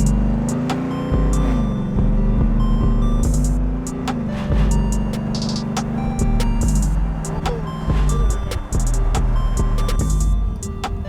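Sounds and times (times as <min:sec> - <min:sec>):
beat music with deep bass: 0:00.0 - 0:11.0
hi-hat runs: 0:00.0 - 0:11.0.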